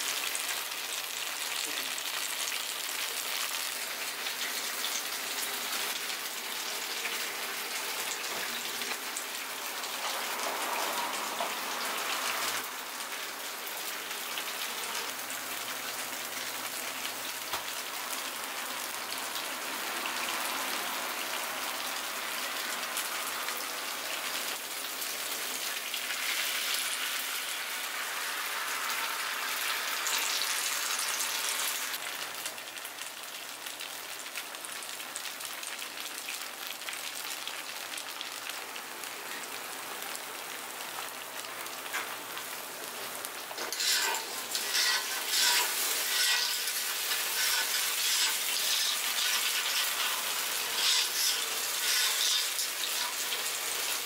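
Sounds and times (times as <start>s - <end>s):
batter sizzling on griddle: 0.0s - 54.0s.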